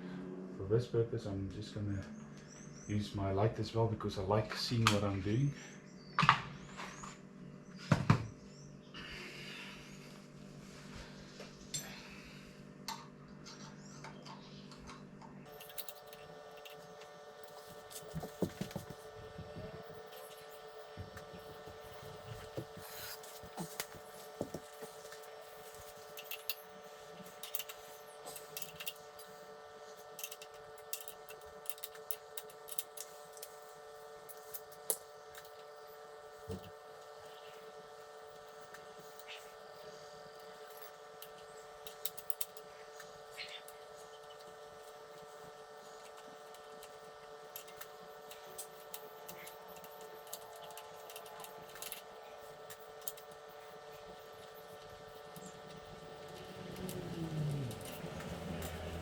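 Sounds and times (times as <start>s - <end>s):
steady electrical hum: 0.0s - 59.0s.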